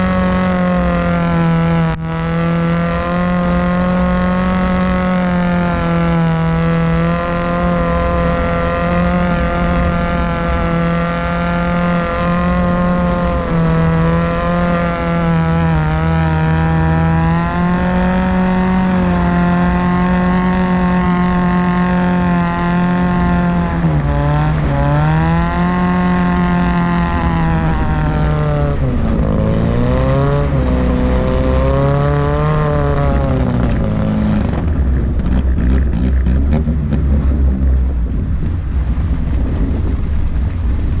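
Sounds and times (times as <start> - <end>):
car engine revving high: 0.0 - 38.2
tyres on dirt: 0.0 - 41.0
wind rumble: 0.0 - 41.0.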